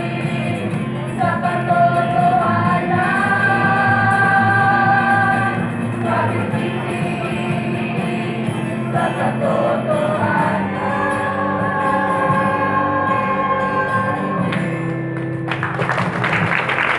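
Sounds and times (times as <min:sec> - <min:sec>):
jingle with group singing: 0:00.0 - 0:14.4.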